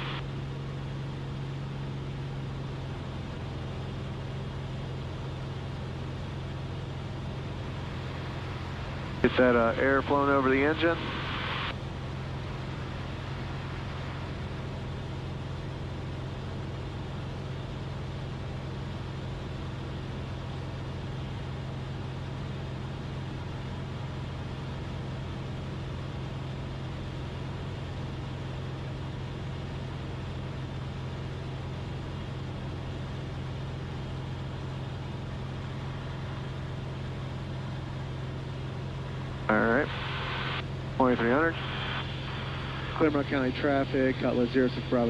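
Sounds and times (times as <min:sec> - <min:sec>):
propeller plane engine droning: 0:00.0 - 0:45.0.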